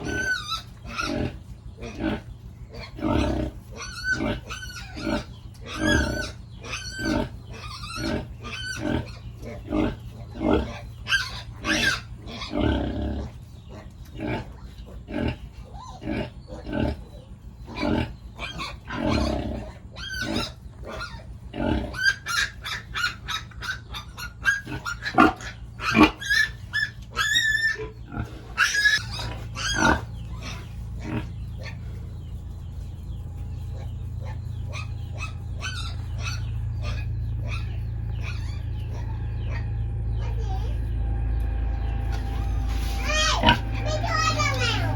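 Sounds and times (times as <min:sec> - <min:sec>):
pigs grunting and squealing: 0:00.0 - 0:44.9
steady low hum: 0:00.0 - 0:44.9.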